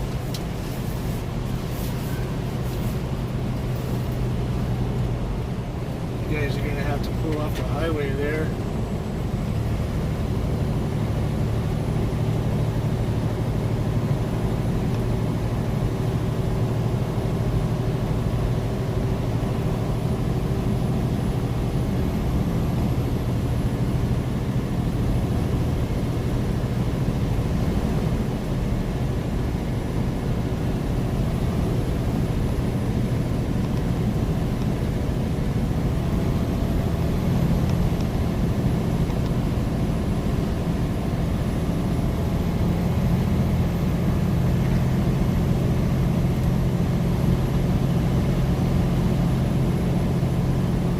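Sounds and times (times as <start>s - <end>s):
diesel truck engine running: 0.0s - 50.9s
road noise: 0.0s - 50.9s.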